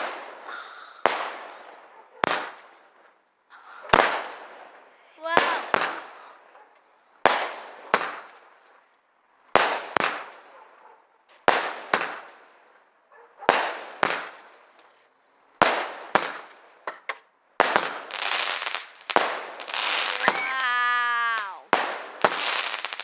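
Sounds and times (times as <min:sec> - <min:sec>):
firework bangs: 0:00.0 - 0:03.2, 0:03.8 - 0:06.6, 0:07.2 - 0:08.7, 0:09.5 - 0:14.9, 0:15.6 - 0:23.0
firework crackling: 0:00.0 - 0:06.6, 0:07.2 - 0:10.6, 0:11.2 - 0:23.0.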